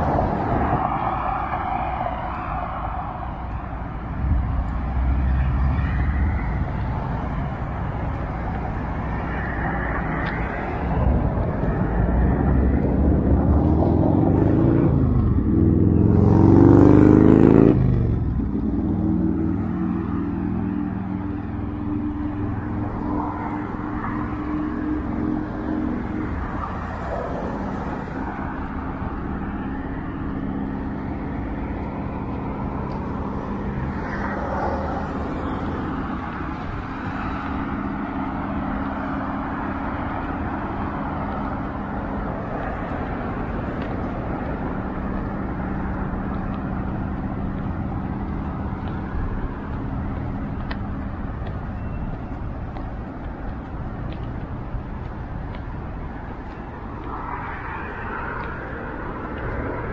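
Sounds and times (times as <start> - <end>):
cars driving past: 0.0 - 59.9
vehicle passing close: 0.0 - 59.9.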